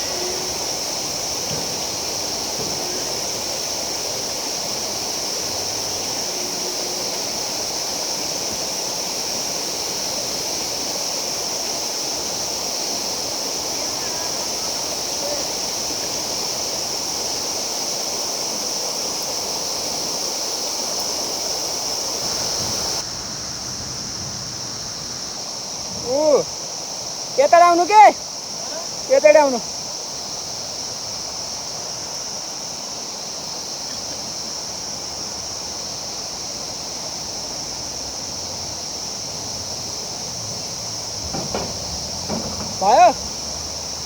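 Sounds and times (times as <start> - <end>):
high-pitched hiss: 0.0 - 44.0
stream water rushing: 0.0 - 44.0.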